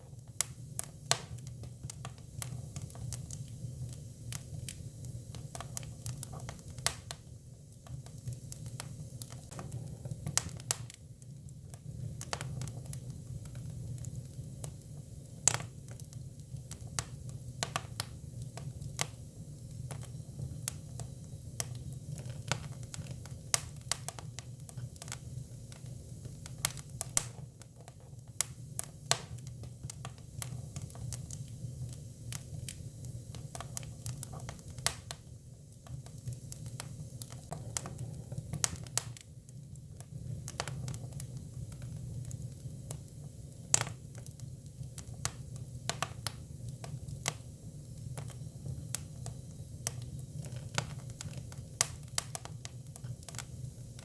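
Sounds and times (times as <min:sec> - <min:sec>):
firewood crackling and popping: 0:00.0 - 0:54.0
low rumble of fire: 0:00.0 - 0:54.0.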